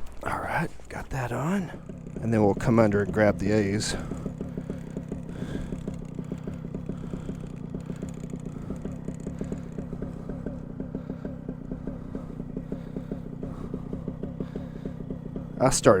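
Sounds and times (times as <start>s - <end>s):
paramotor engine idling: 0.0s - 16.0s.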